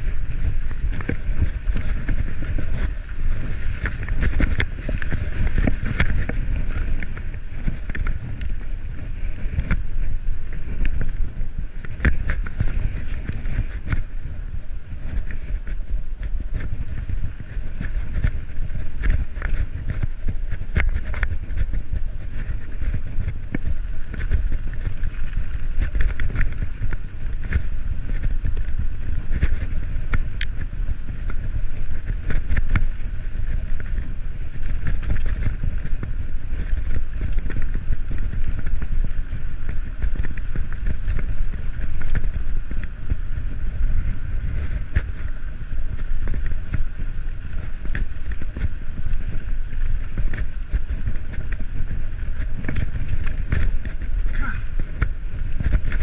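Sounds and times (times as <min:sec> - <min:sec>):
bike clicks and rattles: 0:00.0 - 0:56.0
wind on microphone: 0:00.0 - 0:56.0.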